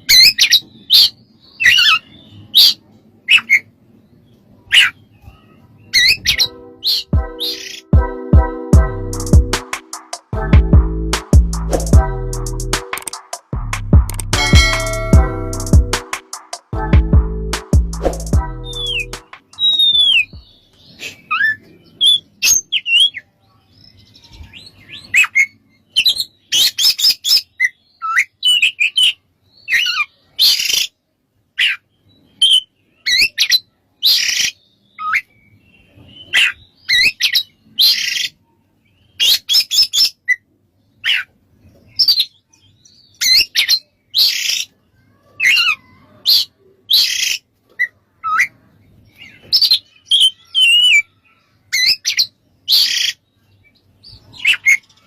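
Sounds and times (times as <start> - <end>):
bird singing varied song: 0.0 - 10.6, 16.8 - 55.0.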